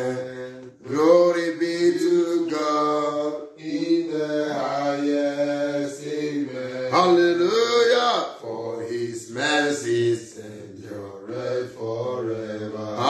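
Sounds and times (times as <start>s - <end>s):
man chanting prayer: 0.0s - 13.0s.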